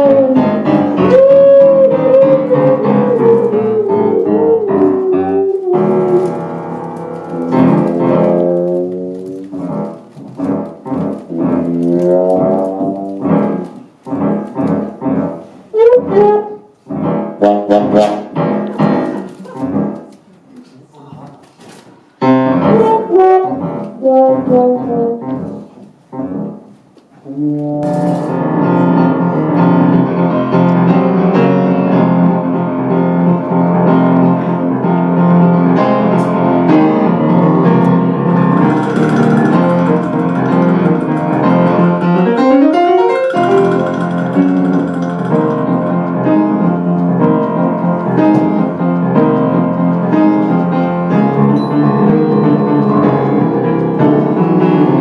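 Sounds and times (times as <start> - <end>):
trombone: 0.0 - 10.0, 10.8 - 19.8, 22.5 - 48.8
piano: 0.0 - 55.0.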